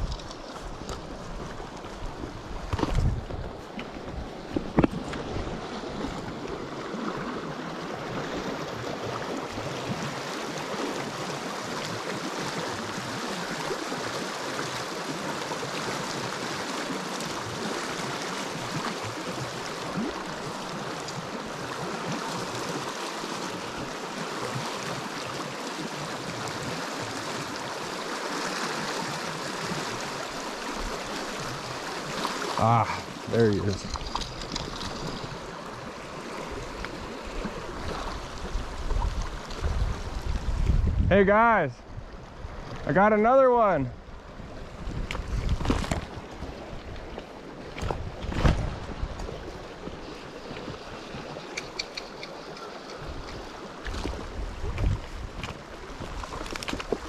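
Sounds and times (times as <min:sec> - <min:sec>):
creek water running over rocks: 0:00.0 - 0:57.0.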